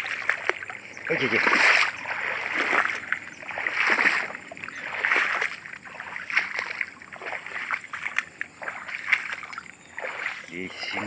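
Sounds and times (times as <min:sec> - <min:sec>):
footsteps splashing through water: 0:00.0 - 0:11.0.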